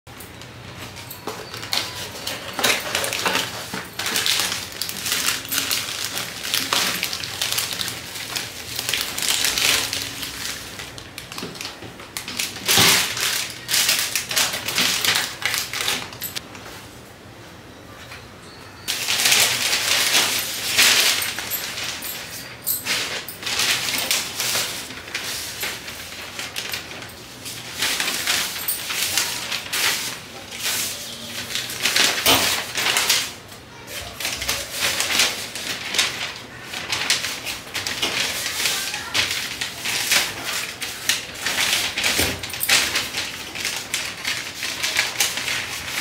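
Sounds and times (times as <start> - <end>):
rustling and brushing of handled things: 0.2 - 46.0.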